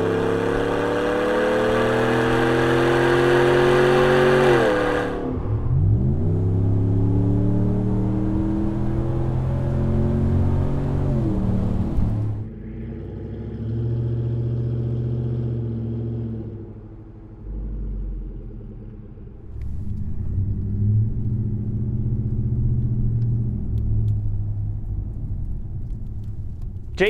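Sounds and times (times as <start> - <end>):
engine idling and revving: 0.0 - 27.0.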